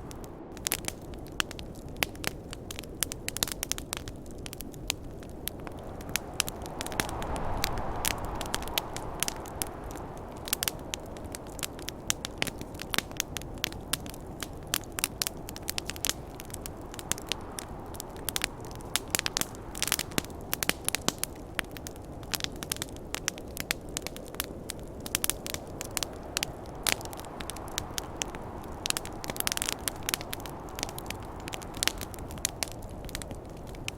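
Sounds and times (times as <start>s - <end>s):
campfire crackling and popping: 0.0s - 33.9s
snowstorm wind rushing: 0.0s - 33.9s.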